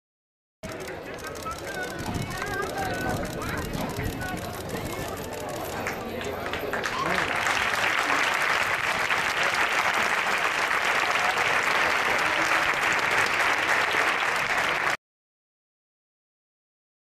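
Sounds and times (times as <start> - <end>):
crowd applauding: 0.7 - 15.0.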